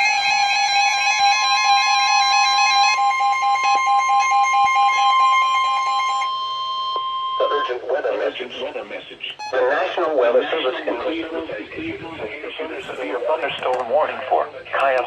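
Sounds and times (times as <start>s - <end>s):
steady high alert tone: 0.0s - 8.7s, 9.4s - 14.7s.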